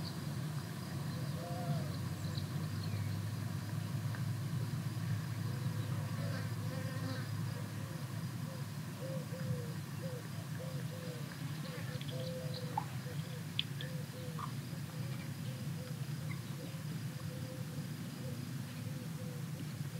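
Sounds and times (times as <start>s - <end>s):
wind: 0.0s - 19.9s.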